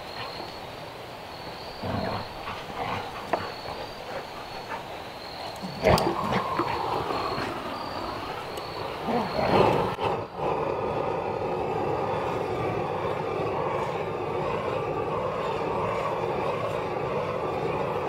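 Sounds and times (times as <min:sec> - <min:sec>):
propane torch hissing: 0:00.0 - 0:18.0.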